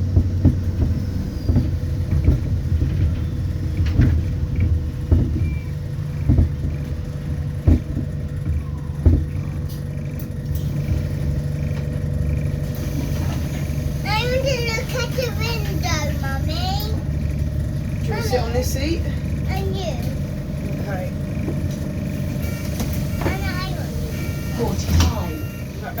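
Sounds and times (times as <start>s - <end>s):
bus body knocks and rattles: 0.0s - 26.0s
bus drivetrain hum: 0.0s - 26.0s.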